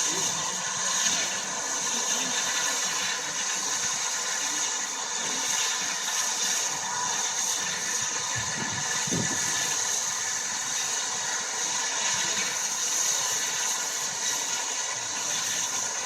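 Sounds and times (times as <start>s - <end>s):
steam hissing: 0.0s - 16.0s.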